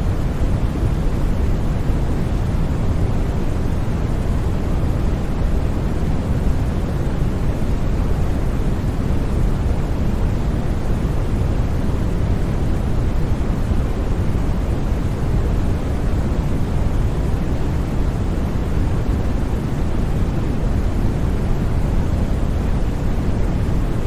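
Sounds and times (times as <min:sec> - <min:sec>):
low white noise hiss: 0:00.0 - 0:24.0.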